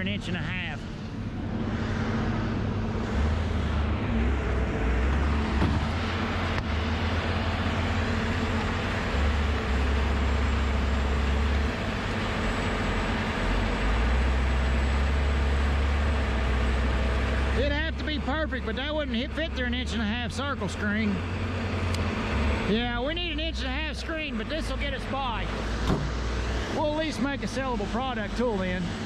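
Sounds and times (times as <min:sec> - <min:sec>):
wood grinder engine running: 0:00.9 - 0:29.0.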